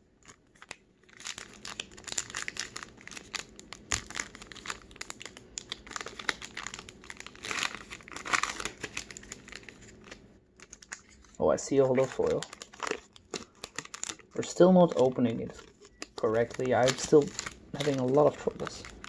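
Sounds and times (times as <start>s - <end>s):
foil wrapper tearing and crinkling: 0.2s - 19.0s.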